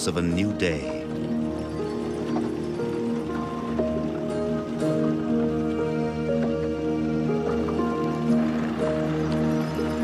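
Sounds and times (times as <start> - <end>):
music of sustained notes: 0.0 - 10.0.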